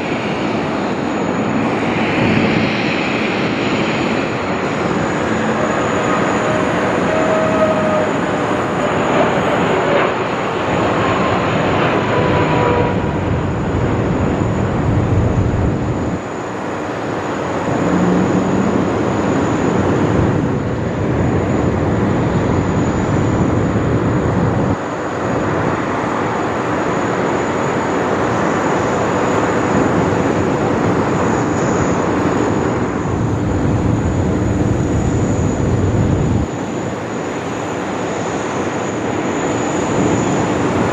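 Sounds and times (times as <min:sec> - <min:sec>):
jet engine rush: 0:00.0 - 0:40.9.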